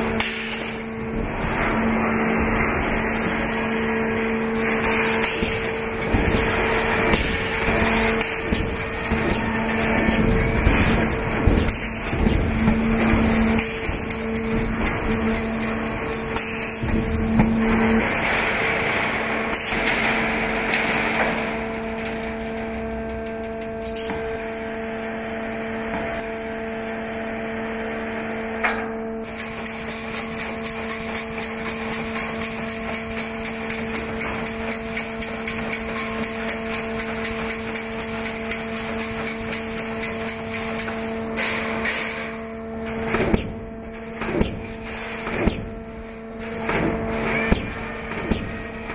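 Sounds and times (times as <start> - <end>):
mechanical strokes and clanks: 0.0 - 26.4, 28.6 - 48.9
steady machine hum: 0.0 - 48.9.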